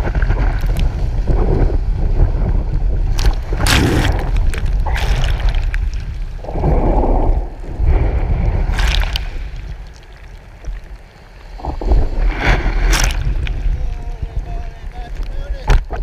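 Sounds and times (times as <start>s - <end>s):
wind rumble on microphone: 0.0s - 16.0s
whitewater rushing and splashing: 3.1s - 16.0s.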